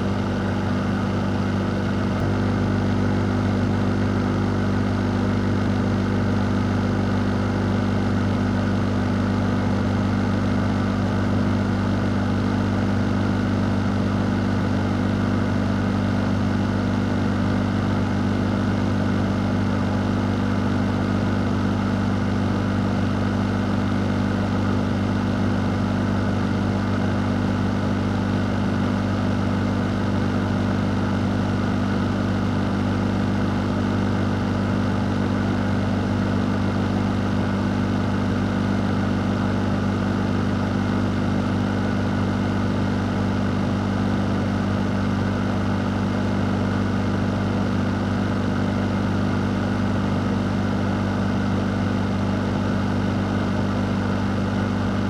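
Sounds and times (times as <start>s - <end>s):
fan running: 0.0s - 55.0s.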